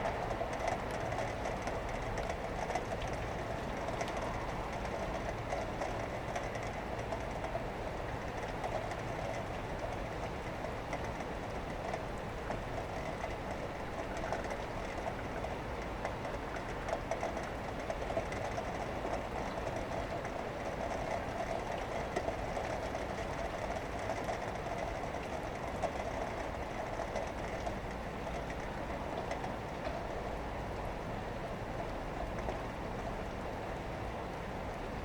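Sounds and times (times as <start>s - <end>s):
small ticks: 0.0s - 30.4s, 31.8s - 33.1s.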